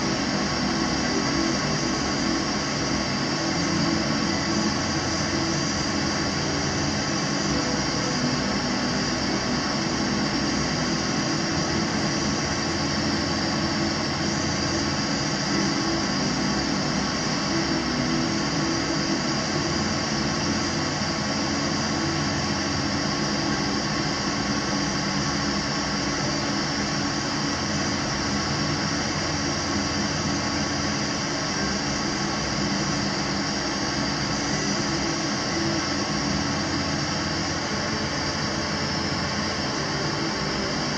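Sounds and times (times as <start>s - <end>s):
gas burner flame rushing: 0.0s - 40.9s.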